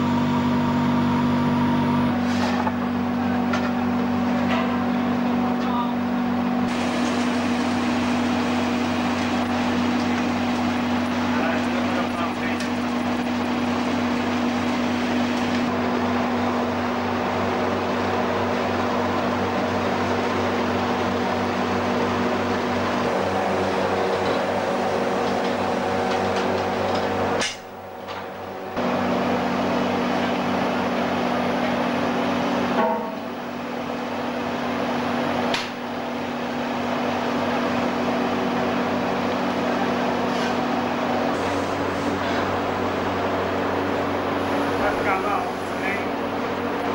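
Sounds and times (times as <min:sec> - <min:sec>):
foundry machinery drone: 0:00.0 - 0:46.9.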